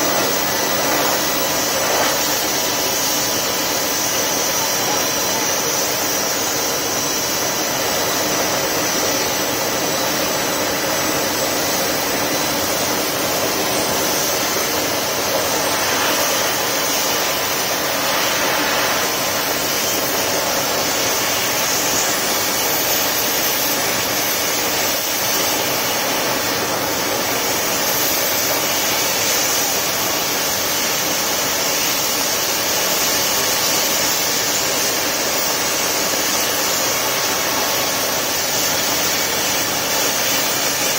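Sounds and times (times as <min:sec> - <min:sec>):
faint high whine: 0:00.0 - 0:40.9
wood stove roaring: 0:00.0 - 0:40.9.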